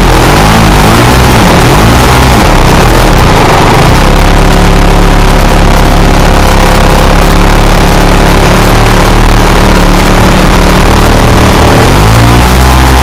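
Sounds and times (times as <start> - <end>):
airplane engine and propeller: 0.0 - 13.0.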